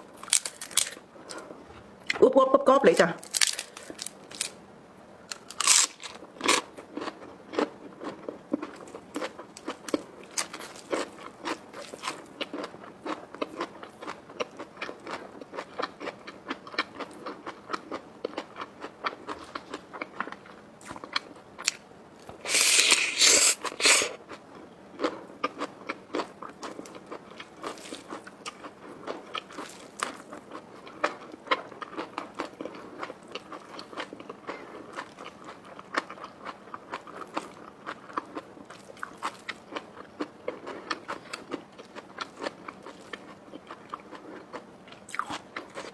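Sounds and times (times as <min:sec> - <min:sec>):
person crunching crisp food: 0:00.0 - 0:01.5, 0:03.2 - 0:04.6, 0:05.3 - 0:45.9.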